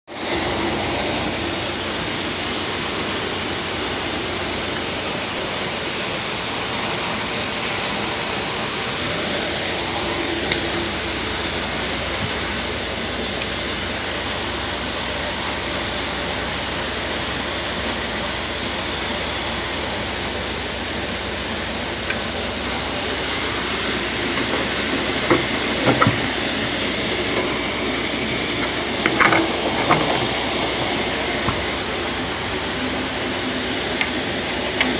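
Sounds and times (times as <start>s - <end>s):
tractor diesel engine idling: 0.2s - 34.9s.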